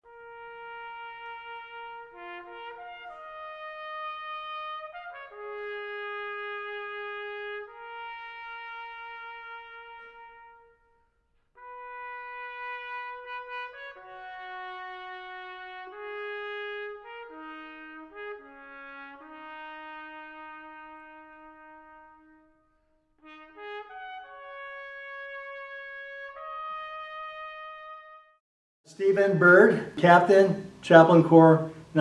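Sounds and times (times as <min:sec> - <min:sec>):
slow brass music with trumpet: 0:00.0 - 0:28.4.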